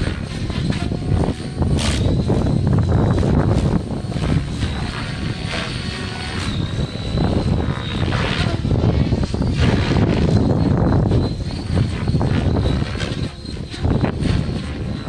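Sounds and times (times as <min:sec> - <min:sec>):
helicopter motor and rotor whine: 0:00.0 - 0:15.0
wind buffeting microphone: 0:00.0 - 0:15.0.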